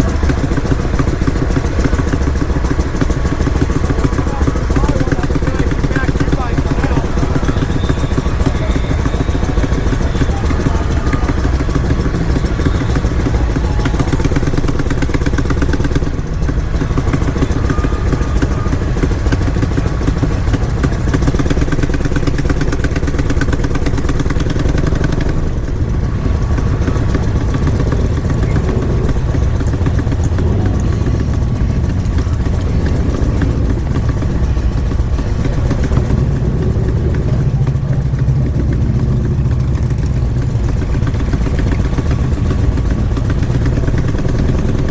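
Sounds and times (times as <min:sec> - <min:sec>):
motorcycle engines rumbling: 0:00.0 - 0:44.9.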